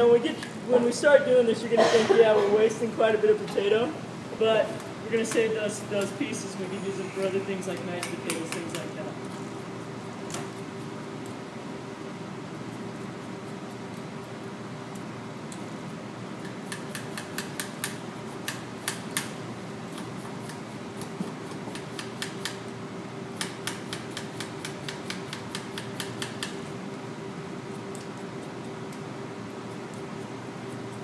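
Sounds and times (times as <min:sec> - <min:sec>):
room ventilation hum: 0:00.0 - 0:31.0.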